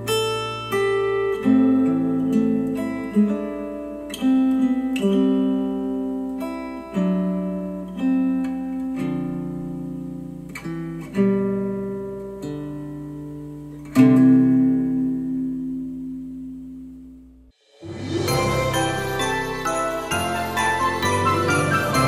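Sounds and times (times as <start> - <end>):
acoustic guitar chords strummed: 0.0 - 22.0.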